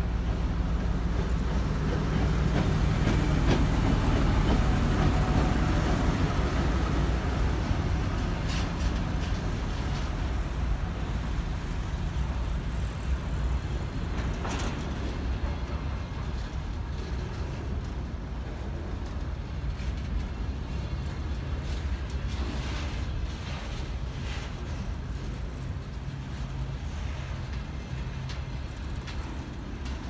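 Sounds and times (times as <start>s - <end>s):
locomotive engine rumbling: 0.0s - 30.0s
wheels clacking on rails: 0.0s - 30.0s.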